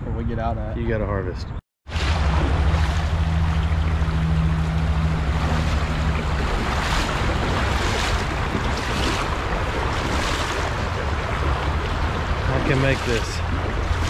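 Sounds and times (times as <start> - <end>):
creek water rushing over rocks: 1.9 - 14.0
low rumble: 1.9 - 14.0.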